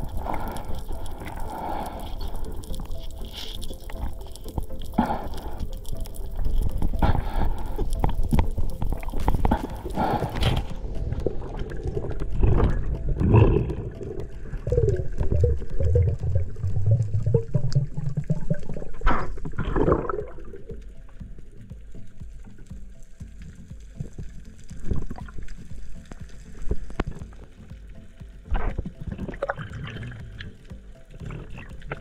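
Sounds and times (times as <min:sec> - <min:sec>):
underwater water gurgling: 0:00.0 - 0:32.0.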